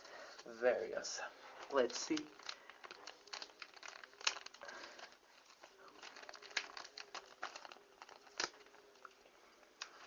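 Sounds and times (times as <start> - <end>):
packaging crinkling: 0.3 - 10.0.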